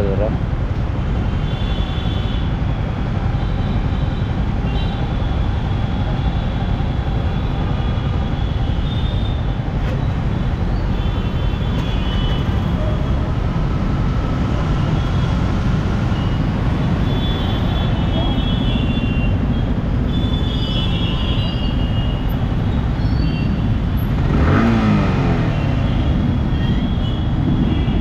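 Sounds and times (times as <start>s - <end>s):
motorcycle and traffic rumble: 0.0s - 28.0s.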